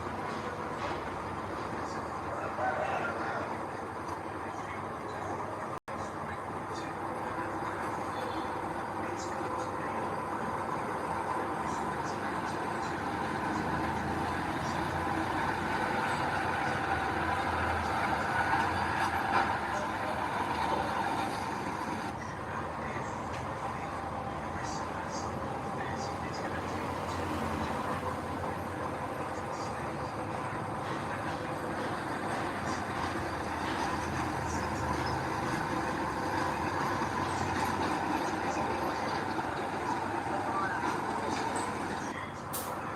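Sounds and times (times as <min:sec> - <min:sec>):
diesel machinery engine hum: 0:00.0 - 0:42.9.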